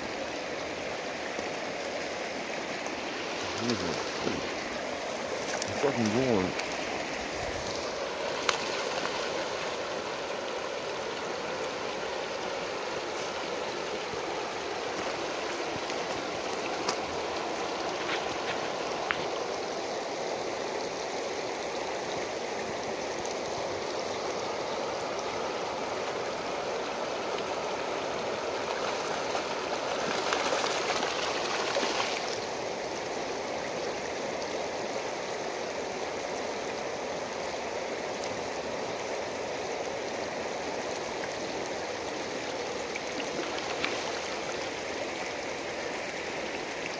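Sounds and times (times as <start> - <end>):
river water rushing over rocks: 0.0 - 46.9.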